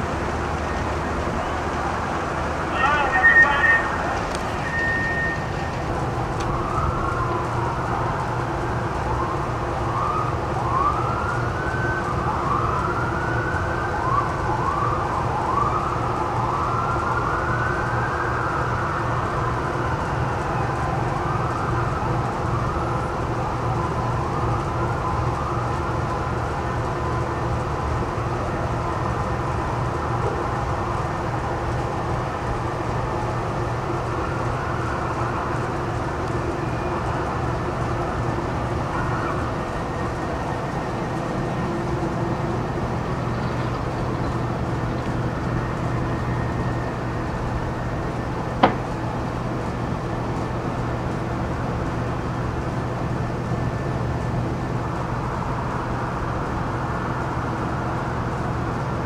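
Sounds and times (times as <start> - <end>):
emergency siren wailing: 0.0 - 59.0
low rumble of city traffic: 0.0 - 59.0.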